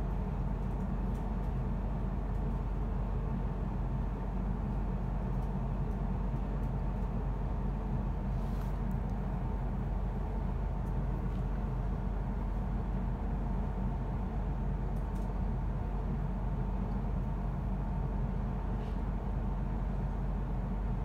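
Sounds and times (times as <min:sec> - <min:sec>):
train carriage hum and rumble: 0:00.0 - 0:21.0.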